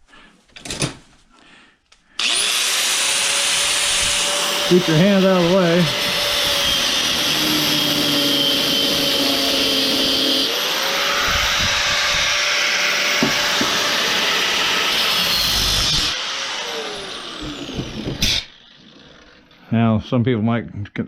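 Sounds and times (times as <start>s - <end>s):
angle grinder cutting metal: 2.2s - 19.6s
grinder disc spinning down: 2.2s - 19.6s.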